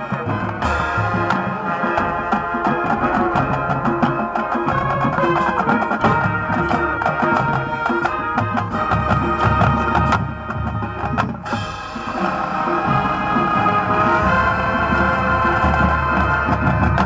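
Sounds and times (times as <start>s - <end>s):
brass and woodwinds holding chords: 0.0s - 17.0s
drumline playing: 0.0s - 17.0s.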